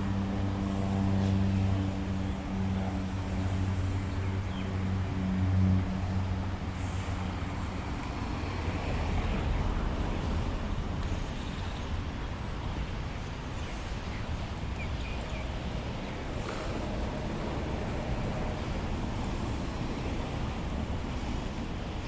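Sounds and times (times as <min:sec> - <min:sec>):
outdoor rumble and hiss: 0:00.0 - 0:22.0.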